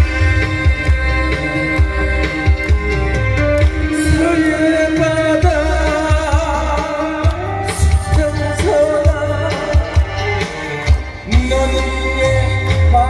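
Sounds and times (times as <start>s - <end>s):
amplified accompaniment: 0.0s - 13.0s
person singing: 0.0s - 13.0s
steady drum beat: 0.0s - 13.0s.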